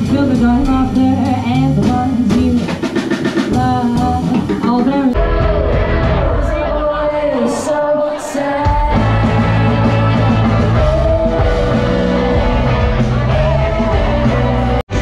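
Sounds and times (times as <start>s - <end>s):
bass and drums: 0.0s - 7.8s, 8.6s - 15.0s
electric guitars: 0.0s - 15.0s
person singing: 0.0s - 15.0s.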